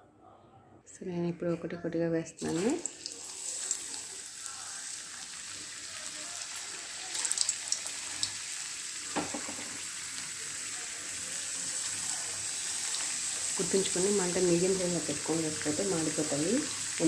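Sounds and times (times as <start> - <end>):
potato slices sizzling in oil: 2.4 - 17.0.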